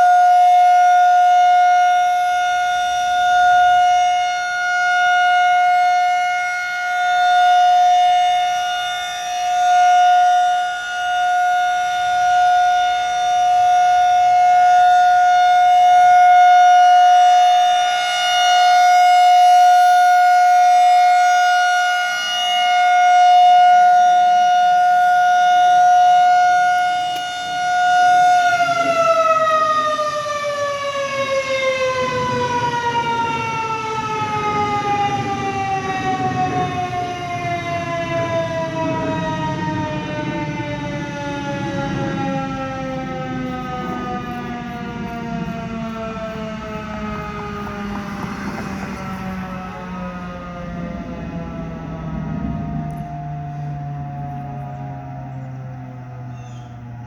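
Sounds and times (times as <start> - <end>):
rotating warning siren: 0.0 - 57.0.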